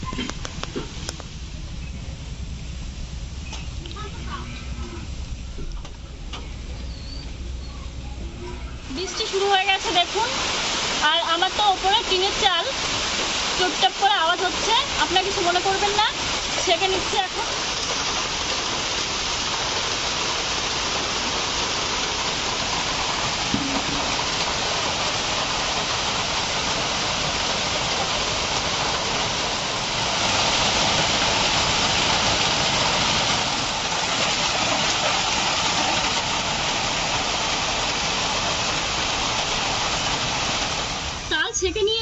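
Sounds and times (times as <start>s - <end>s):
rain on a tin roof: 0.0s - 42.0s.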